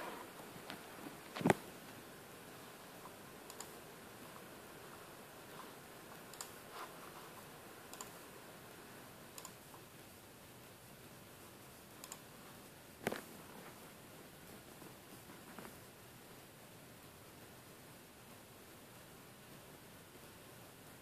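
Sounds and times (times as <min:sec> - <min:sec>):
room hiss: 0:00.0 - 0:21.0.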